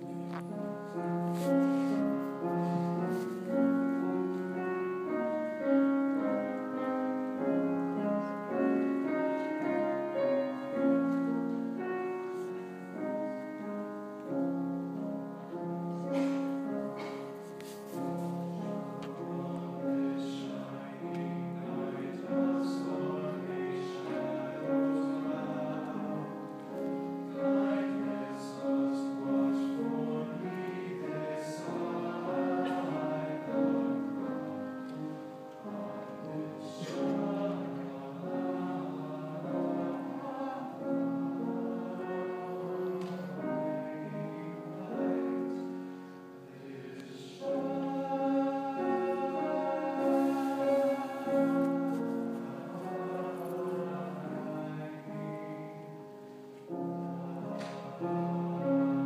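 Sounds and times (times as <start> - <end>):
mixed choir singing: 0.0 - 59.0.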